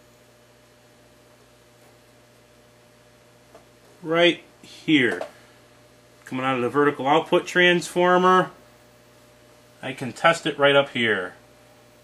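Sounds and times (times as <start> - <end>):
faint steady hiss: 0.0 - 12.0
low electrical hum: 0.0 - 12.0.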